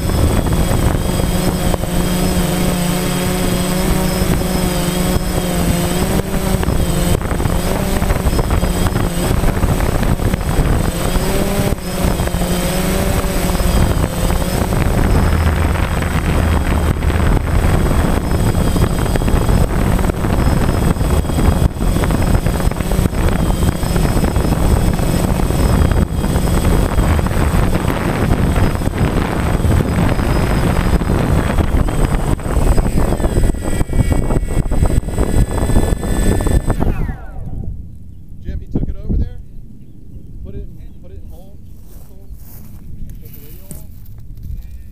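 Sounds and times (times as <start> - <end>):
drone motors whirring: 0.0 - 38.2
wind rushing over microphone: 0.0 - 44.9.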